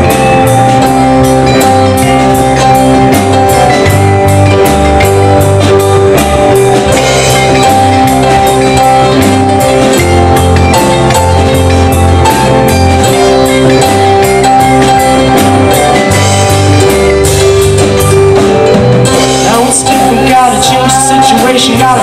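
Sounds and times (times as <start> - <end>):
bass guitar: 0.0 - 22.0
drum kit beat: 0.0 - 22.0
electric guitars: 0.0 - 22.0.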